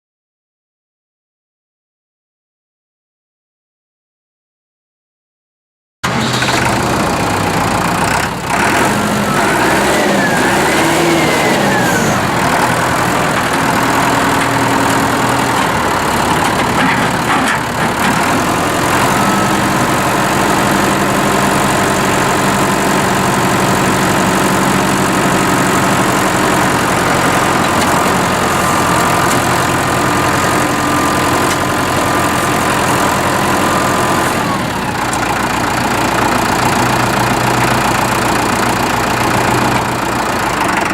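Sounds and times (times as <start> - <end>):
tractor diesel engine running: 6.0 - 40.9.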